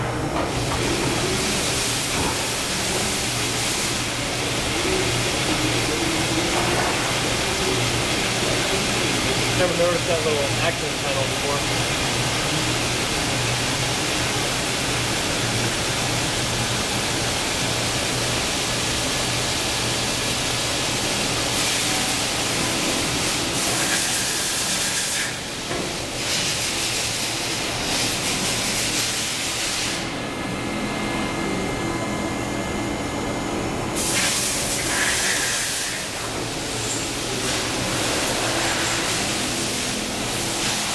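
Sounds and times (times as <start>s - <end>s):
mill spindle and cutting noise: 0.0s - 40.9s
hissing coolant spray: 0.9s - 30.1s, 34.0s - 40.9s.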